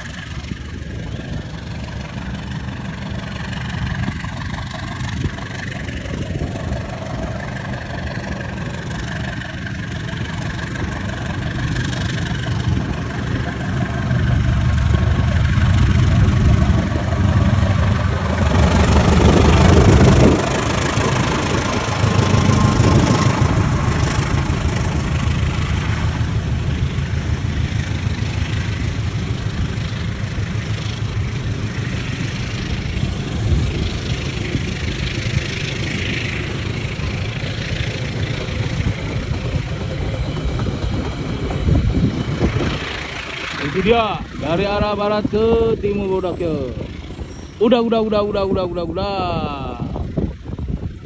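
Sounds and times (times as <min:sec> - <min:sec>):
train engine rumbling: 0:00.0 - 0:51.0.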